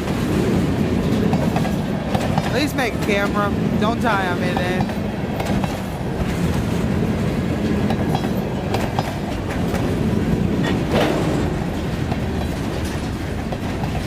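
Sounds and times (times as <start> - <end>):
train rumble: 0.0 - 14.0
train wheels clicking over rail joints: 0.0 - 14.0.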